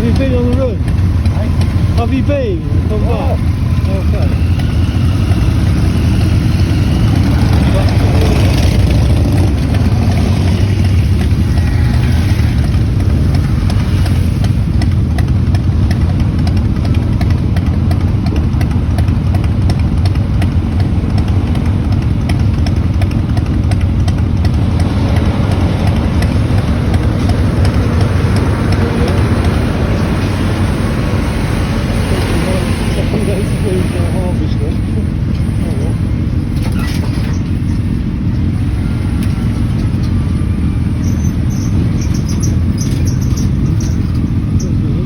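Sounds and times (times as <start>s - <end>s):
motorcycle engines idling: 0.0s - 45.0s.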